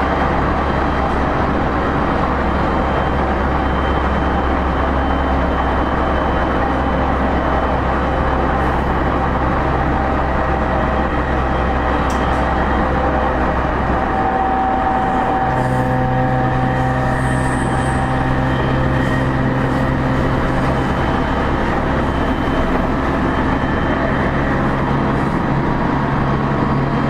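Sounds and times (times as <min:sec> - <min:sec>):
traction motor whine: 0:00.0 - 0:27.0
train wheel-and-rail noise: 0:00.0 - 0:27.0.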